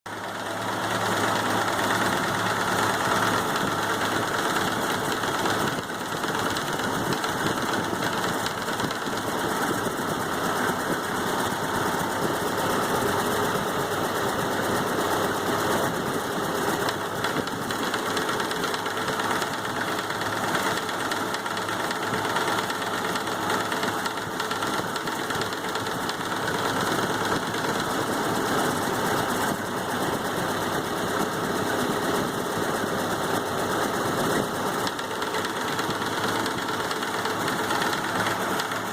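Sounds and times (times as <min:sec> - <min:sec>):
engine running with a knock: 0:00.1 - 0:38.9.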